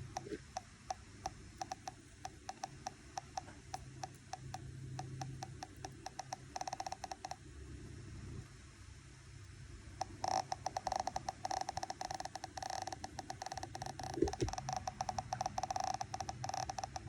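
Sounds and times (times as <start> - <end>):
rapid uneven clicks: 0.0 - 7.4, 10.0 - 17.0
mid-pitched buzzing tone: 0.0 - 7.5, 9.4 - 17.0.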